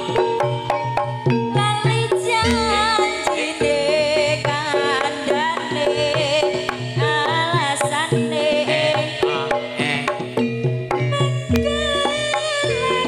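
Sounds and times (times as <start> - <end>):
woman singing with vibrato: 0.0 - 0.8, 1.5 - 13.0.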